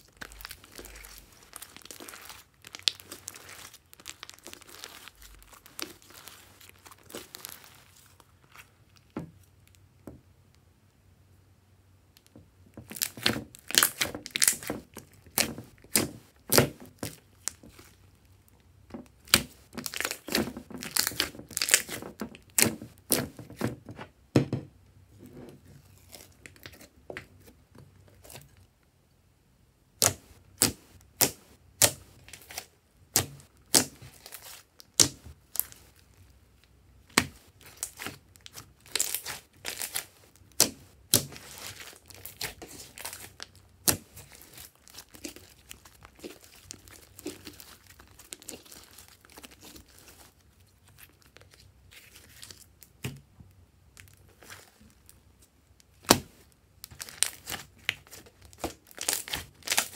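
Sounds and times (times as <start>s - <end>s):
slime crackling and popping by hand: 0.0s - 9.9s, 12.2s - 23.7s, 30.0s - 59.9s.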